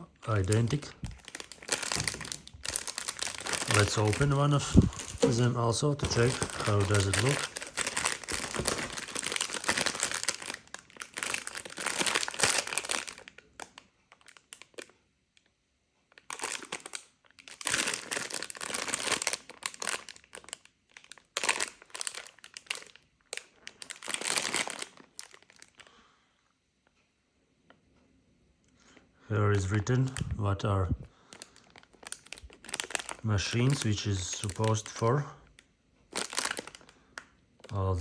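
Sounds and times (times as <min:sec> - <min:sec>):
packaging crinkling and rustling: 0:00.3 - 0:15.5, 0:16.1 - 0:25.9, 0:31.2 - 0:37.8.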